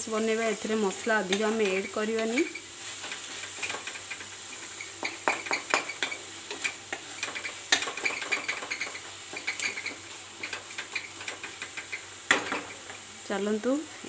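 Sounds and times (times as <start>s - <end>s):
spatula scraping frying pan: 0.6s - 13.0s.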